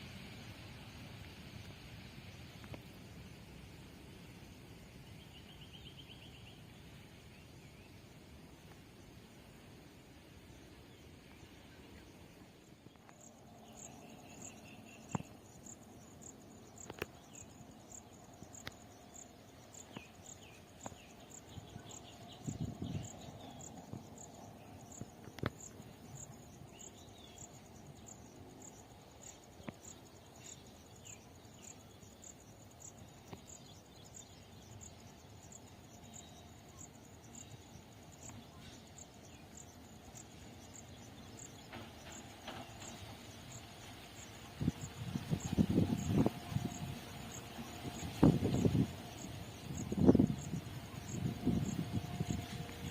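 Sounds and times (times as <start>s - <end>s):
insect chirping: 0.0s - 52.9s.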